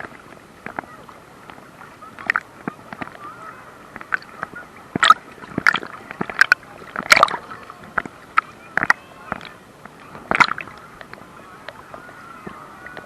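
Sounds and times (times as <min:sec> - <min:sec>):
sea water splashing and sloshing: 0:00.0 - 0:13.0.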